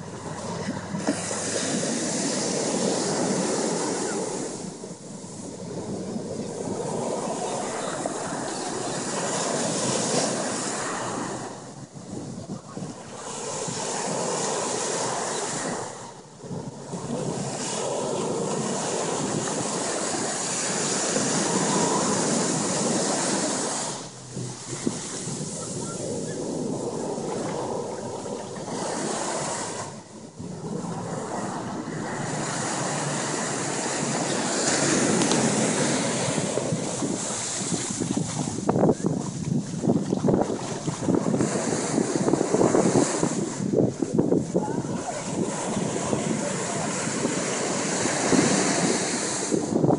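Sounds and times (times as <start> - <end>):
ocean surf breaking: 0.0 - 49.9
wind on microphone: 0.0 - 49.9.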